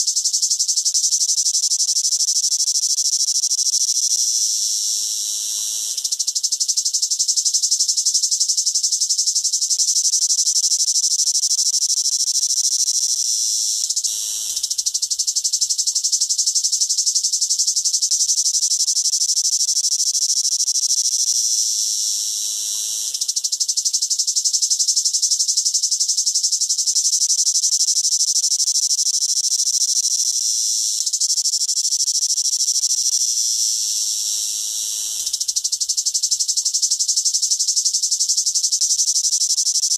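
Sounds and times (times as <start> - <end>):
cicada buzzing: 0.0 - 39.9.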